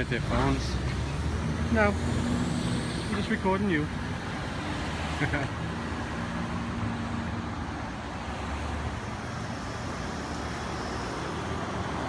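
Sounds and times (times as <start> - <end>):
vehicles passing with low rumble: 0.0 - 12.0.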